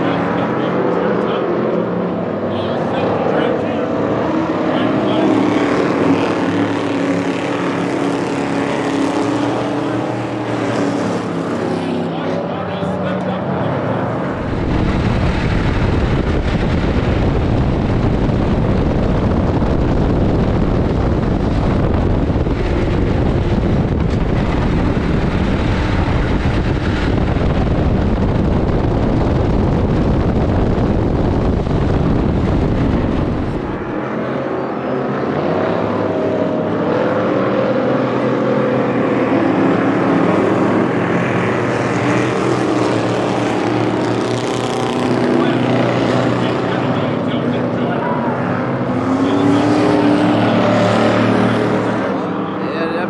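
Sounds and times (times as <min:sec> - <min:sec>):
race car engine drone in cabin: 0:00.0 - 0:53.0
race car passing trackside: 0:00.0 - 0:53.0.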